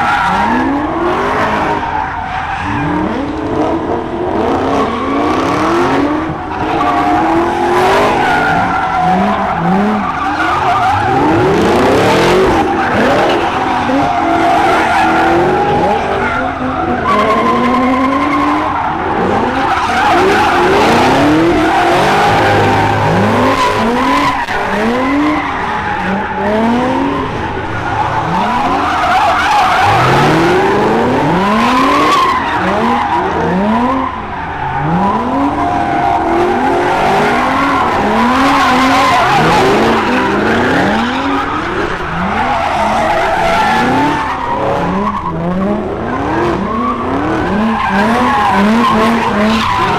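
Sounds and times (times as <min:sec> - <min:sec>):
car engines revving: 0:00.0 - 0:49.9
tires screeching: 0:00.0 - 0:49.9.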